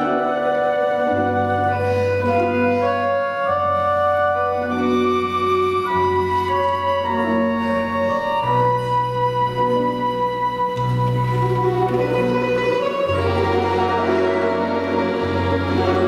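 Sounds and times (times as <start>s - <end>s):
folk instrument orchestra playing: 0.0s - 16.0s.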